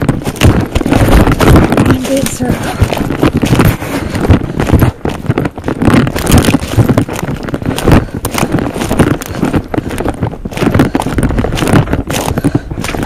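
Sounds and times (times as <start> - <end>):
camera knocks and thuds: 0.0 - 13.0
footsteps crashing through dry brush: 0.0 - 13.0.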